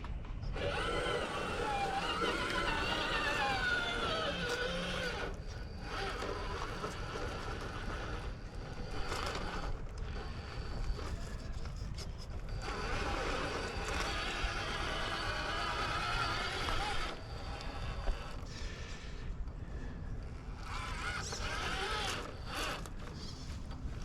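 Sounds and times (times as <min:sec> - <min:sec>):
electric motor and drivetrain whining: 0:00.0 - 0:24.0.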